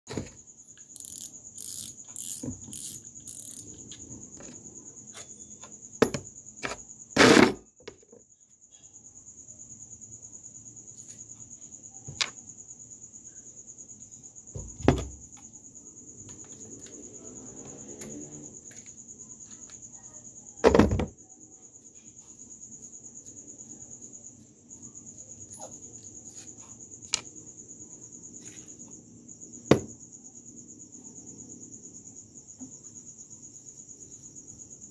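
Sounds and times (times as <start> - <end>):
insect chirring: 0.4 - 20.6, 21.2 - 34.9.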